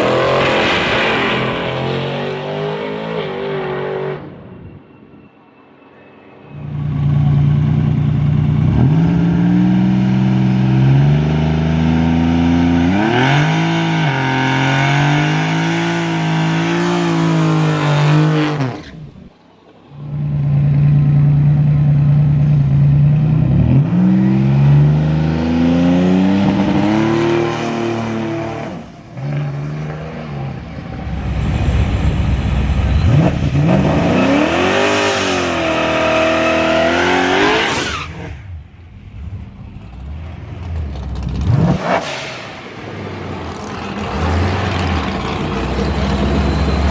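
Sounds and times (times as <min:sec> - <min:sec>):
car engine idling and revving: 0:06.6 - 0:46.9.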